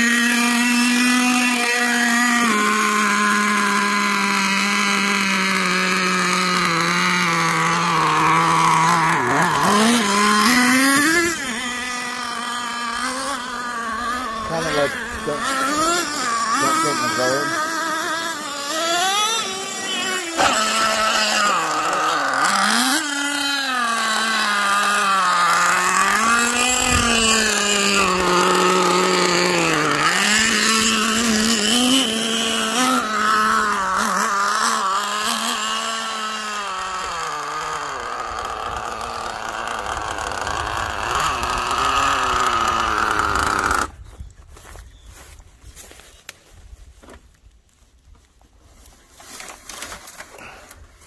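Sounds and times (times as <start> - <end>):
small two-stroke engine revving: 0.0 - 44.2, 50.2 - 50.8.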